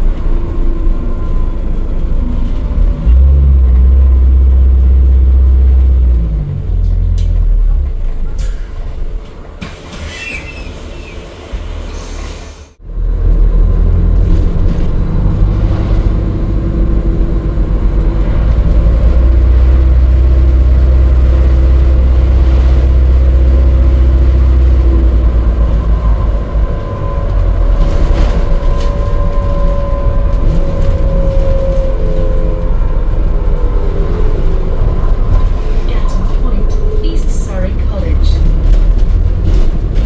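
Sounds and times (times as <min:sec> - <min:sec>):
bus interior rumble: 0:00.0 - 0:40.0.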